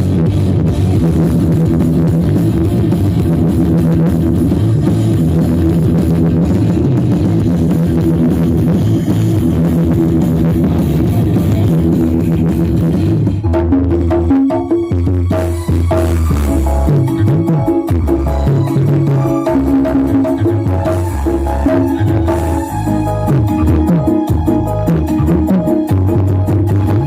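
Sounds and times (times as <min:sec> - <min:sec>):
loud rock music: 0:00.0 - 0:27.0.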